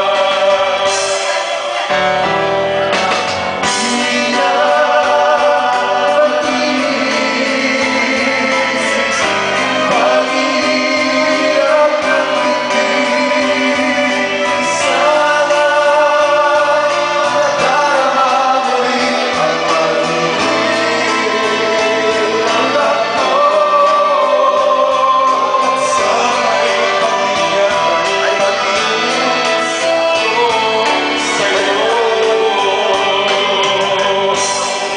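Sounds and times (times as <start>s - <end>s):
man and woman singing duet: 0.0s - 2.2s, 3.6s - 34.9s
instrumental backing: 0.0s - 34.9s.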